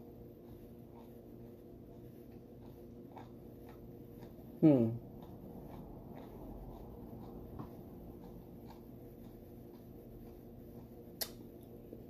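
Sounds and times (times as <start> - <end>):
food being chewed: 0.0 - 12.0
steady low hum: 0.0 - 12.0.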